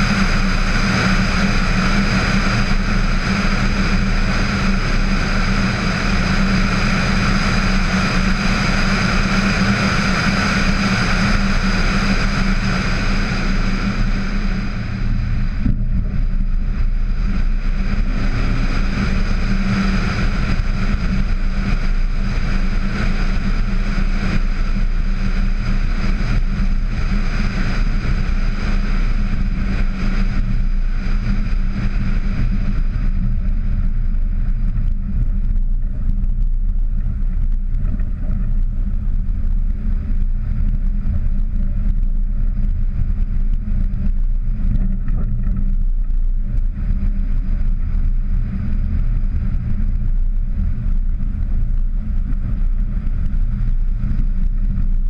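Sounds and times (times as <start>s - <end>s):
engine and tyres droning: 0.0s - 55.0s
wind noise on microphone: 0.0s - 55.0s.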